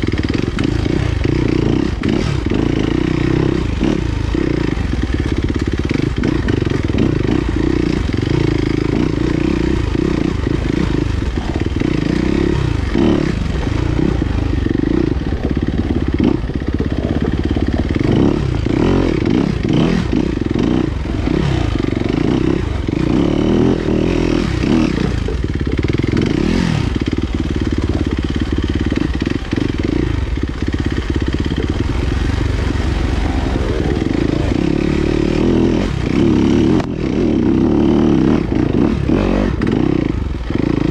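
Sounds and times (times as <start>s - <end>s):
knocks and rattles from bike: 0.0s - 40.9s
motorcycle engine revving: 0.0s - 40.9s.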